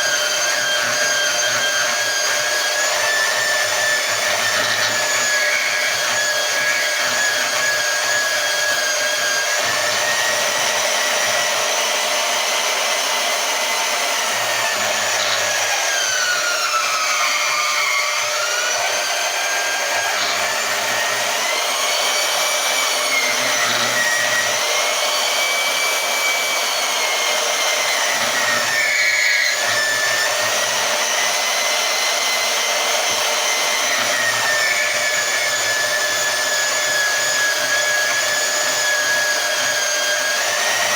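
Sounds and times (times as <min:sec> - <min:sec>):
band saw cutting steel: 0:00.0 - 0:40.9.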